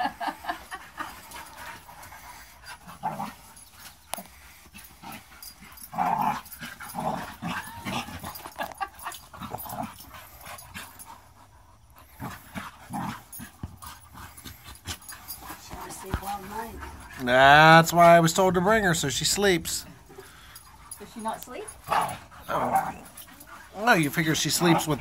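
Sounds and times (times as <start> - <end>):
dog panting: 0.1 - 25.0
dogs play-fighting: 0.1 - 25.0.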